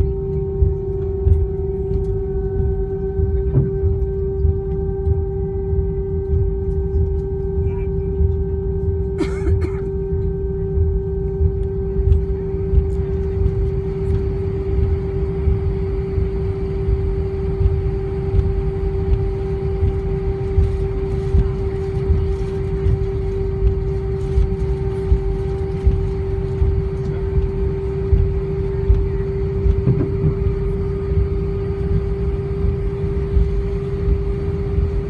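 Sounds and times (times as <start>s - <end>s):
airplane cabin engine rumble: 0.0s - 35.0s
constant hum tone: 0.0s - 35.0s.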